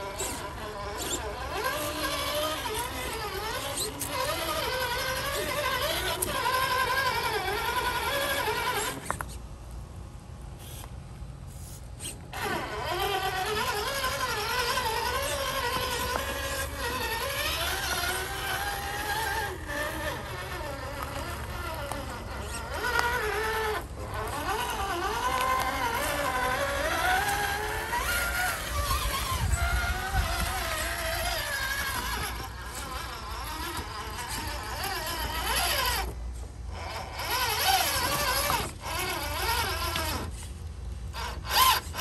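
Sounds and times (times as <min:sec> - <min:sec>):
toy car electric motor whine: 0:00.0 - 0:09.5, 0:10.5 - 0:42.0.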